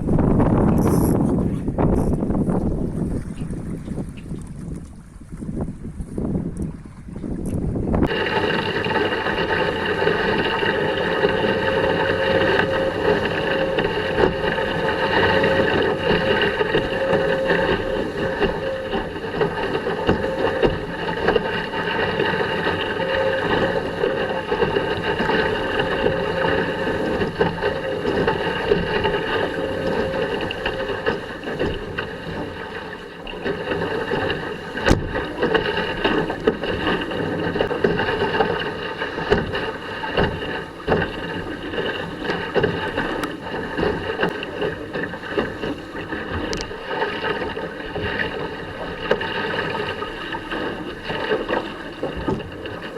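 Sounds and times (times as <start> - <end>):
water rushing along a hull: 0.0 - 52.9
wind buffeting microphone: 0.0 - 52.9.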